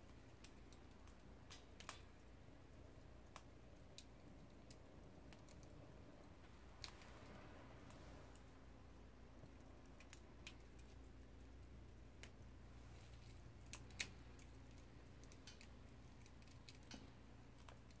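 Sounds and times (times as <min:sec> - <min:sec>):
faint low hum: 0:00.0 - 0:18.0
wood crackling in a stove: 0:00.0 - 0:18.0.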